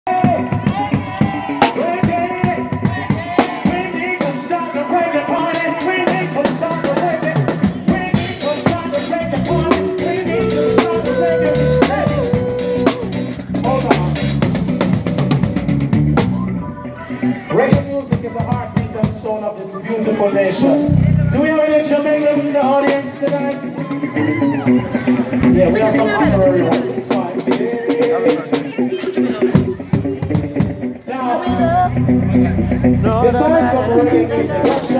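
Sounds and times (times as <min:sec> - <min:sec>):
live band playing: 0:00.1 - 0:34.9.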